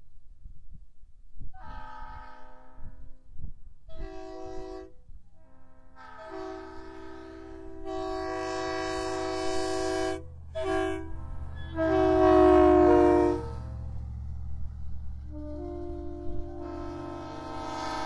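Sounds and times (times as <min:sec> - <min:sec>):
locomotive air horn: 0:01.5 - 0:18.0.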